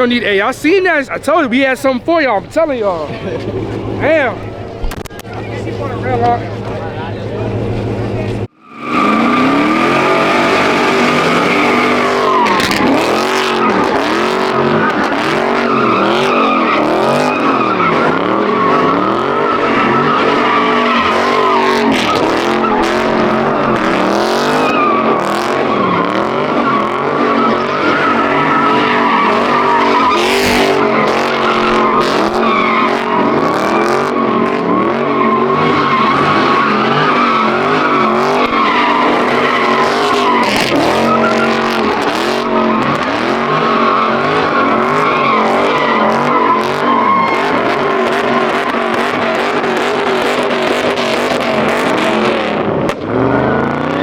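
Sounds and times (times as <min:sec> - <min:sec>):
car engine revving: 0:00.0 - 0:54.0
tyre squeal: 0:03.3 - 0:52.2.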